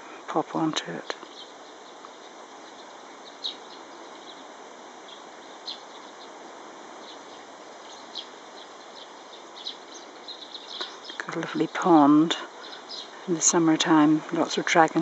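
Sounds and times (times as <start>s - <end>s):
small birds chirping: 0.0s - 15.0s
steady background hiss: 0.0s - 15.0s.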